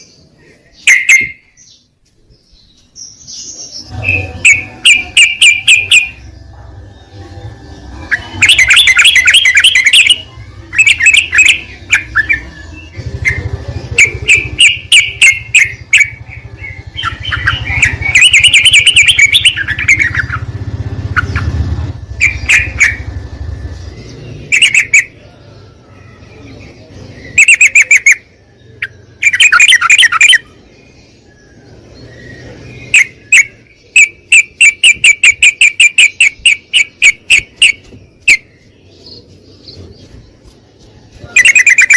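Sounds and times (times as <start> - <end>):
bird chirping song: 0.0 - 41.9.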